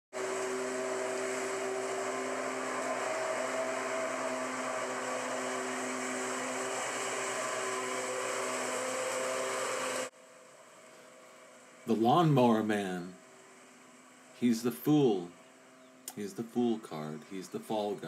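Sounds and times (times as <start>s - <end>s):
lawnmower engine running: 0.2s - 18.0s.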